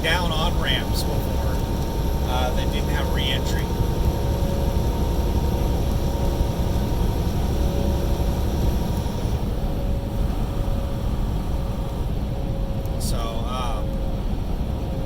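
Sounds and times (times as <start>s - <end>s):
steady hums: 0.0s - 15.0s
truck engine and road noise: 0.0s - 15.0s.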